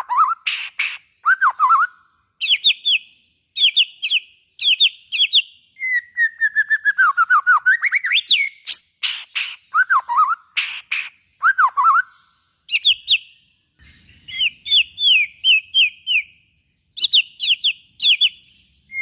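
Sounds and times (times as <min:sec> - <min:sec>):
songbird singing whistled notes: 0:00.0 - 0:19.0.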